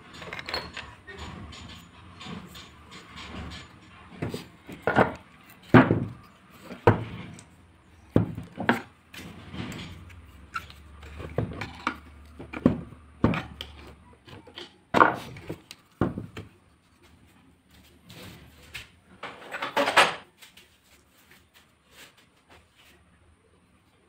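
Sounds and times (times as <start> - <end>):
scraping and handling noise: 0.0 - 23.2.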